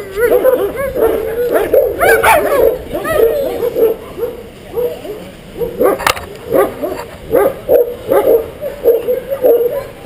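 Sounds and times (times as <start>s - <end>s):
dog barking: 0.2s - 10.0s.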